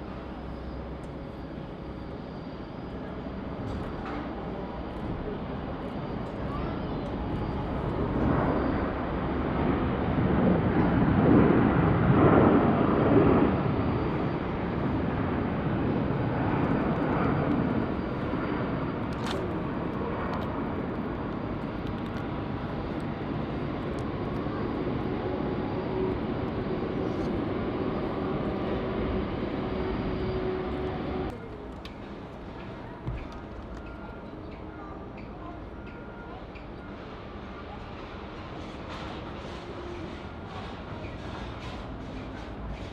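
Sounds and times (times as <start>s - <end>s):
jet engines landing: 0.0s - 34.6s.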